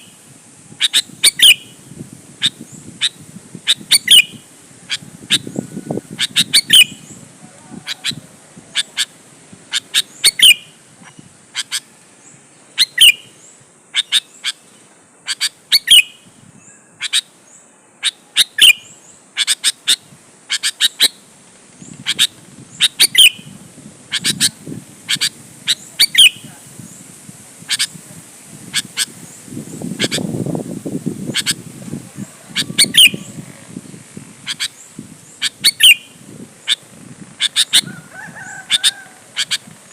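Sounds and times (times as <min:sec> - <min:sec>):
bulbul calling: 0:00.8 - 0:07.2, 0:07.8 - 0:11.9, 0:12.8 - 0:16.3, 0:16.9 - 0:17.4, 0:18.0 - 0:21.3, 0:21.9 - 0:26.6, 0:27.7 - 0:28.0, 0:28.7 - 0:30.3, 0:31.3 - 0:31.6, 0:32.3 - 0:39.9.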